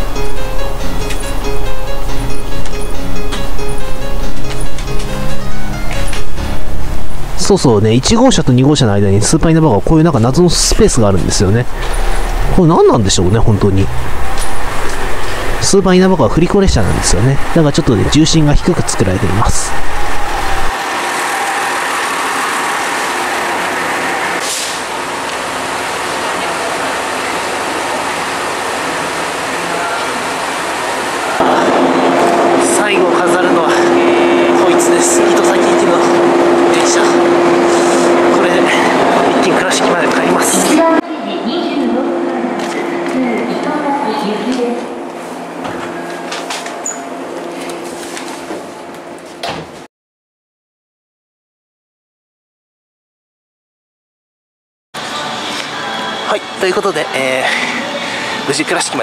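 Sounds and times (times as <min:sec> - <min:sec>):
railcar engine hum: 0:00.0 - 0:49.4, 0:55.0 - 0:59.0.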